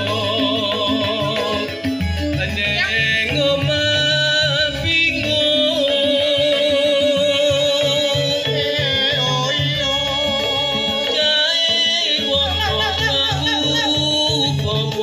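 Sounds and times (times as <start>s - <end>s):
song over loud sound system: 0.0s - 15.0s.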